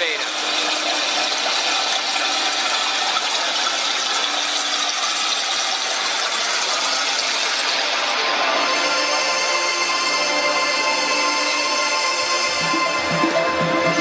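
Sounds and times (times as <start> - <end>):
dense electronic noise texture: 0.0 - 14.0.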